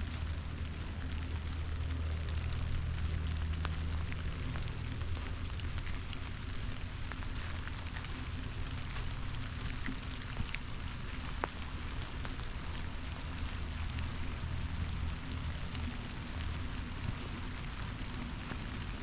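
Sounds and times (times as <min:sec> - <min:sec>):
light rain on leaves: 0:00.0 - 0:19.0
low rumble: 0:00.0 - 0:19.0.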